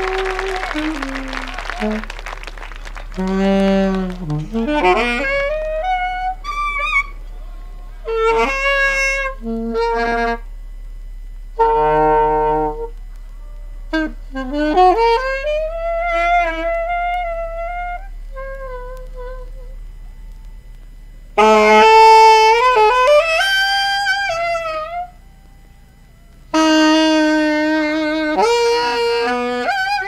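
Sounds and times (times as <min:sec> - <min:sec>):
jazz saxophones playing: 0:00.0 - 0:30.0
low mains hum: 0:00.0 - 0:30.0.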